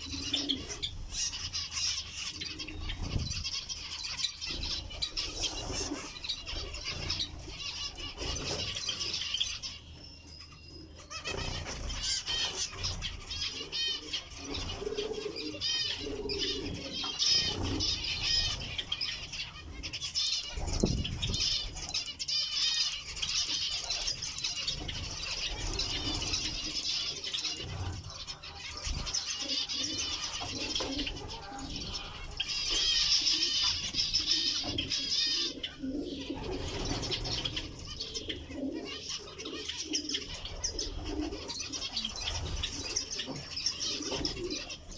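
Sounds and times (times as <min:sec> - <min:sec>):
finches beeping calls: 0:00.0 - 0:44.9.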